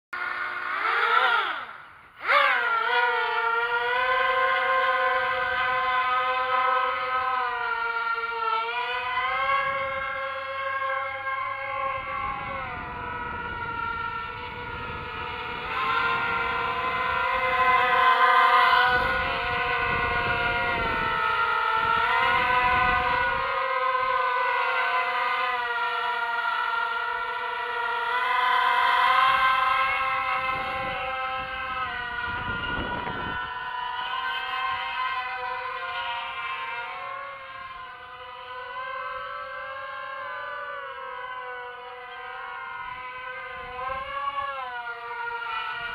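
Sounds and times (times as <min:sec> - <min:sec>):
low rumbling noise: 0:00.2 - 0:45.9
quadcopter motors whining: 0:00.2 - 0:45.9.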